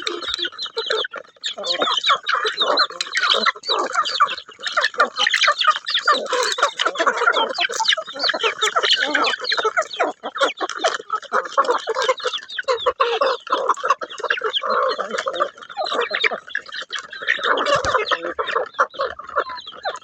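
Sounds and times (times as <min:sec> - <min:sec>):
chickens clucking and chirping: 0:00.0 - 0:20.0.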